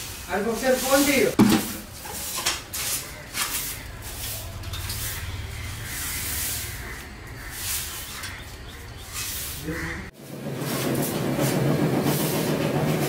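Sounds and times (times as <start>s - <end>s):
hissing rushing roaster noise: 0.0s - 13.0s.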